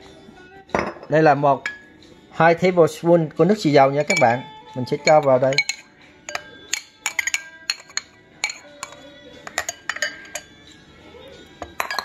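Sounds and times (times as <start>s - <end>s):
ceramic spoon clinking: 0.7s - 2.8s, 3.5s - 10.9s, 11.6s - 12.0s.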